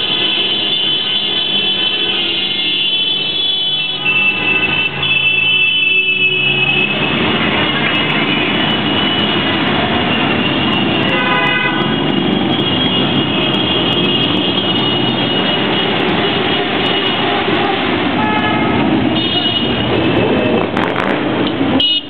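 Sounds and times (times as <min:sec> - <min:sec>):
vehicle horn toot: 0:00.0 - 0:17.6, 0:18.2 - 0:20.6, 0:21.8 - 0:22.0.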